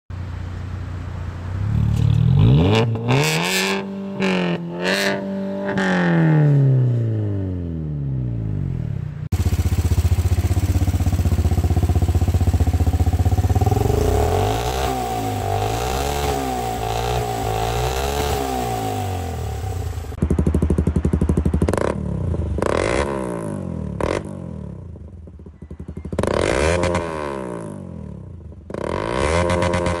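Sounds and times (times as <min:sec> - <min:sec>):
engines revving: 0:01.2 - 0:24.9, 0:25.9 - 0:30.0.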